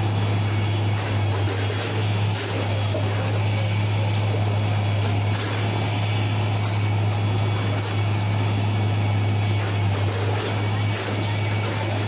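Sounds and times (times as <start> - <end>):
heavy machinery engine drone: 0.0 - 12.0.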